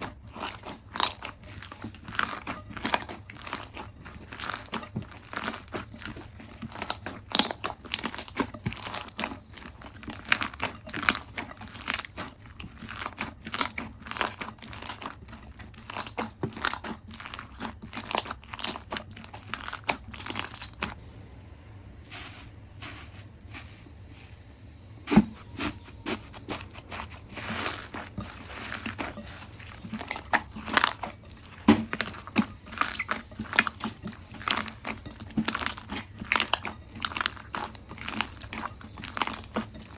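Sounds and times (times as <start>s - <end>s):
slime squishing and popping: 0.0s - 21.0s, 25.1s - 39.9s.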